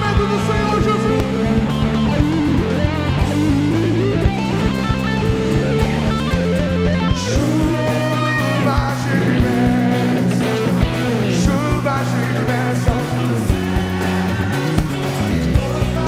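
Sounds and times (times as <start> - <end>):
lead guitar: 0.0 - 16.0
rock band playing: 0.0 - 16.0.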